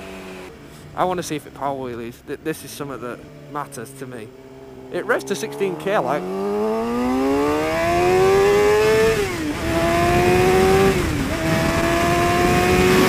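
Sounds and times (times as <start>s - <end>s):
motorcycle engine under full throttle: 0.0s - 1.0s, 3.0s - 13.0s.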